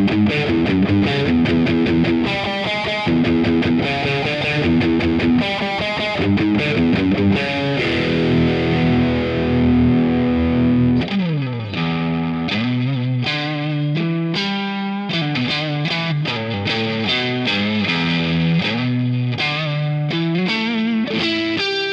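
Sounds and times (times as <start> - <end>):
distorted electric guitar chords: 0.0 - 21.9
guitar downward slide: 0.0 - 21.9.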